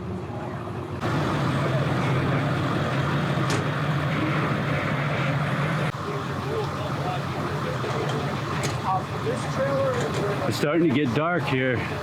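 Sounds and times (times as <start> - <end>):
truck engine running: 1.0 - 12.0.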